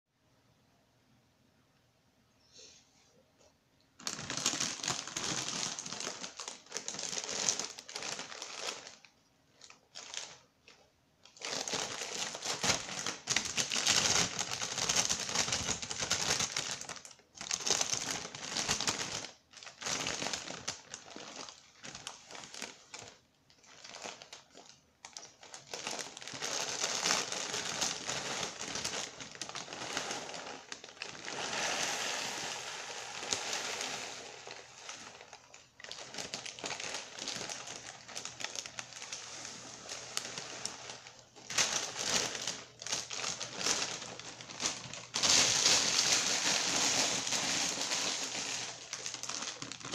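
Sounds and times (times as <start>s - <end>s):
plastic bag crinkling: 4.0s - 49.9s.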